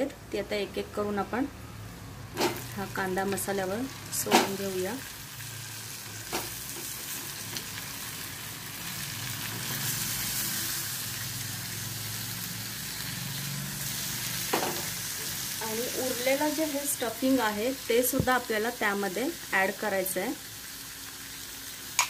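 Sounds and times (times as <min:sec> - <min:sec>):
food sizzling in hot oil: 0:01.8 - 0:22.0.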